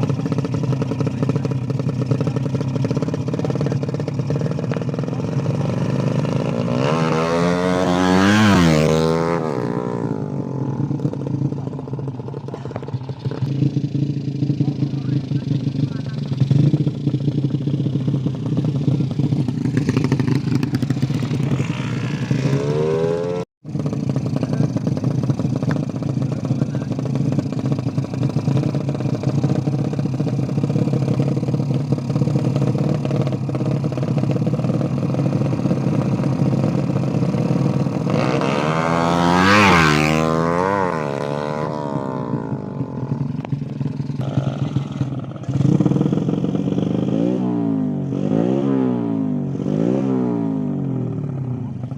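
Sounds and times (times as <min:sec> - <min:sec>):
small engine running and revving: 0:00.0 - 0:11.8, 0:12.4 - 0:51.9.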